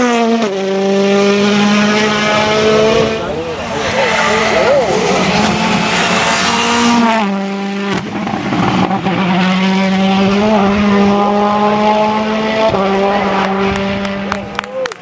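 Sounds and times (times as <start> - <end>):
rally car engine at high revs: 0.0 - 14.9.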